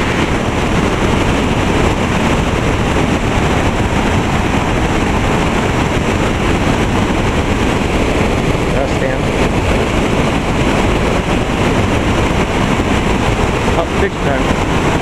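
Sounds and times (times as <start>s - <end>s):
rapids rushing over rocks: 0.0s - 15.0s.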